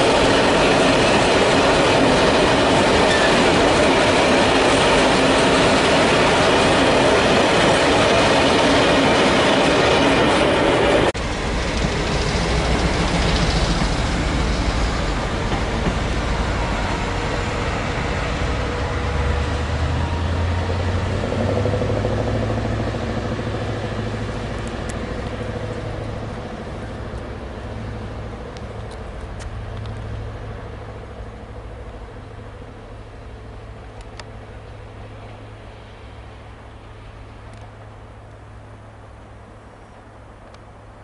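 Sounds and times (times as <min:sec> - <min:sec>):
electric locomotive rushing: 0:00.0 - 0:41.0.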